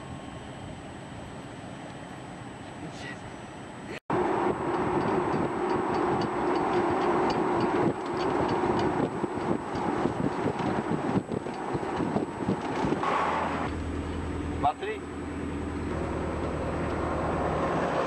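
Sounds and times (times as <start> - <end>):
vehicle road and engine rumble: 0.0 - 18.0.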